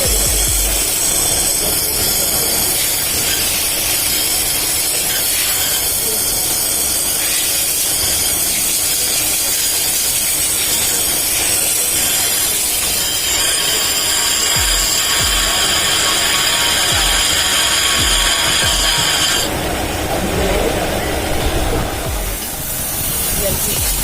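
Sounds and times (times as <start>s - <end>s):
sandpaper grinding spinning disc: 0.0s - 19.6s.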